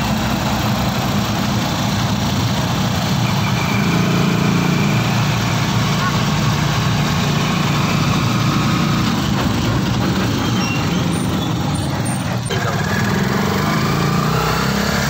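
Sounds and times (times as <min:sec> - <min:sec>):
traffic noise: 0:00.0 - 0:15.0
small engine running: 0:02.7 - 0:15.0.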